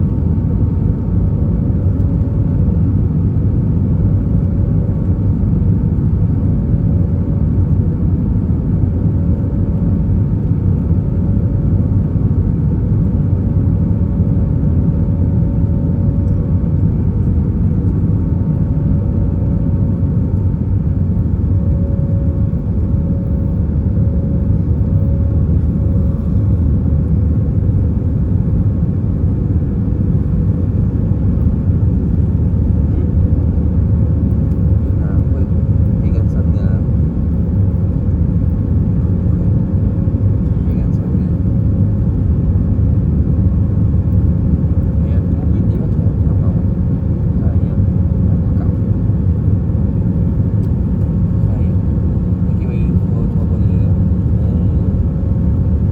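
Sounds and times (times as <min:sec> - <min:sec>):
jet engine rumble in cabin: 0:00.0 - 0:55.9.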